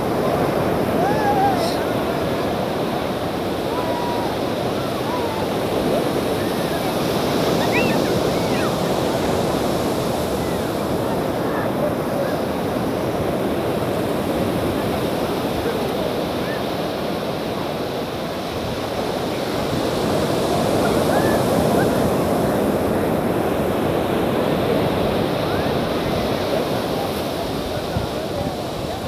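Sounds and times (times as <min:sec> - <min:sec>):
waves breaking on a beach: 0:00.0 - 0:29.0.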